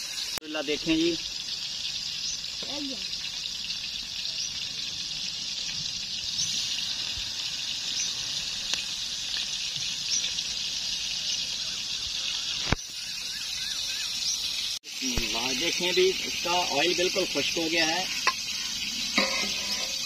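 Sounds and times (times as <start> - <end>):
kebabs sizzling in hot oil: 0.0 - 20.0.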